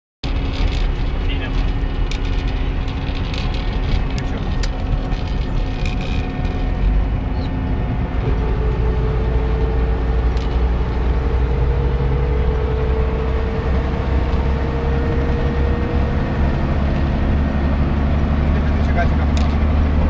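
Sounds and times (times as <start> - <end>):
deep truck engine drone: 0.2 - 20.0
faint rising whine: 0.3 - 20.0.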